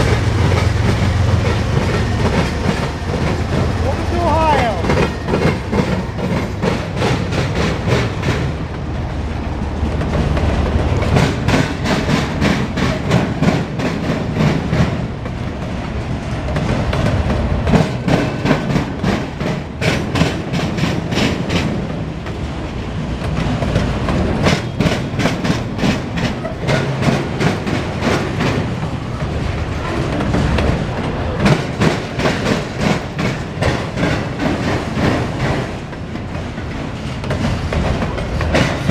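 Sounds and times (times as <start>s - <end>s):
rumble of train cars: 0.0s - 38.9s
train wheels clicking over rail joints: 0.0s - 38.9s.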